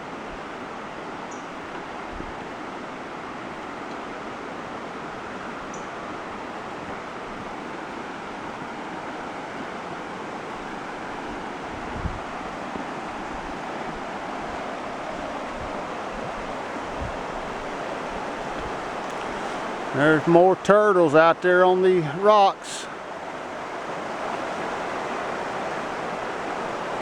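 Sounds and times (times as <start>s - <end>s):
river water flowing over rocks: 0.0s - 27.0s.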